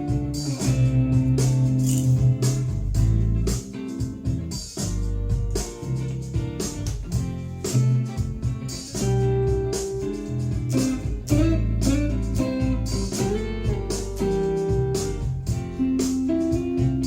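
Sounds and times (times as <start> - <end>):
electric guitar playing: 0.0 - 17.0.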